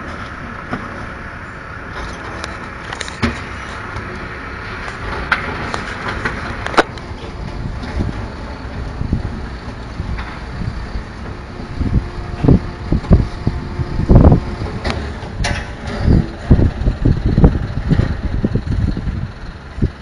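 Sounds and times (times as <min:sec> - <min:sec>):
garbage truck running: 0:00.0 - 0:20.0
wind buffeting microphone: 0:02.4 - 0:20.0.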